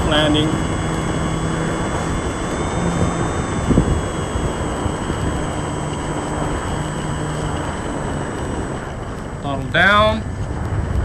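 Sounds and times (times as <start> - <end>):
electric motor and propeller: 0.0 - 11.0.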